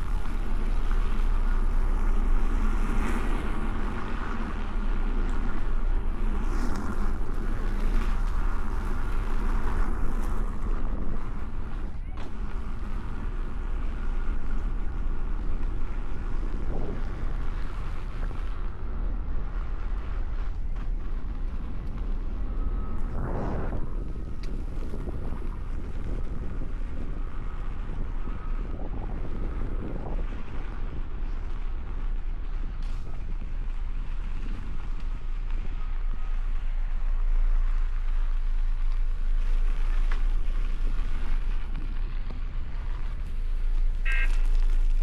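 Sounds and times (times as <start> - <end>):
electric unicycle rumbling: 0.0 - 45.0
wind buffeting microphone: 0.0 - 45.0.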